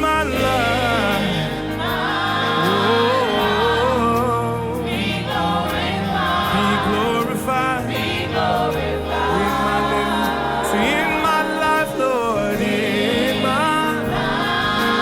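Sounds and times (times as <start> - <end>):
band with steady bass: 0.0 - 15.0
choir singing: 0.0 - 15.0.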